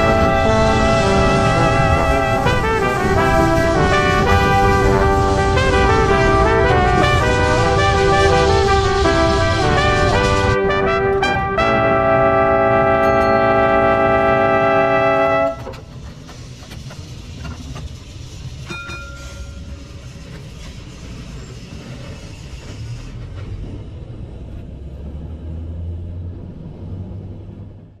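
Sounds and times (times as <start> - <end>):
tram rumbling: 0.0 - 28.0.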